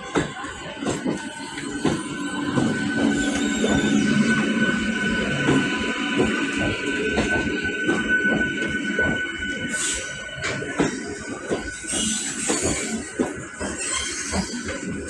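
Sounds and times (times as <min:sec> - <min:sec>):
train high whine: 0:00.0 - 0:15.0
train wheels knocking on rails: 0:00.0 - 0:15.0.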